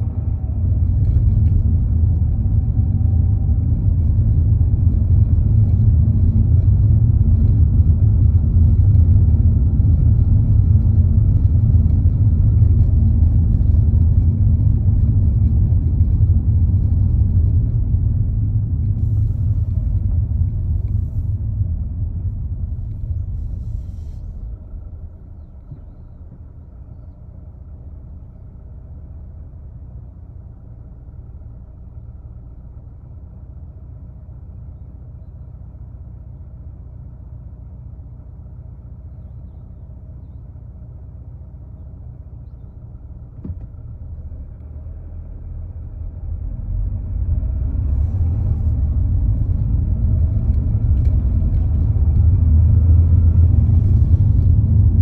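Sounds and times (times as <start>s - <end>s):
low rumble inside car cabin: 0.0s - 55.0s
road noise: 0.0s - 55.0s.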